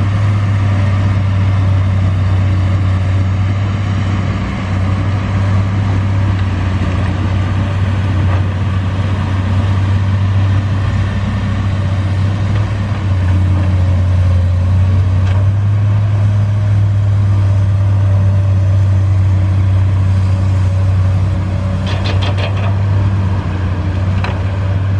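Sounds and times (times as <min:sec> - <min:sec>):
excavator diesel engine droning: 0:00.0 - 0:24.9.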